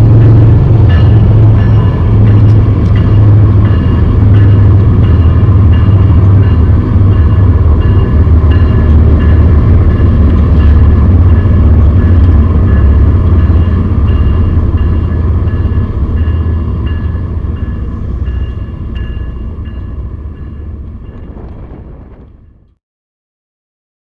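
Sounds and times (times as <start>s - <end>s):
diesel locomotive engine rumble: 0.0s - 22.8s
train rolling noise: 0.0s - 22.8s.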